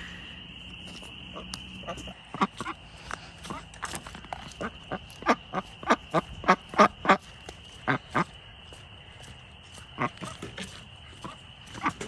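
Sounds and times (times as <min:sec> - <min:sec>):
ducks quacking: 0:00.9 - 0:12.0.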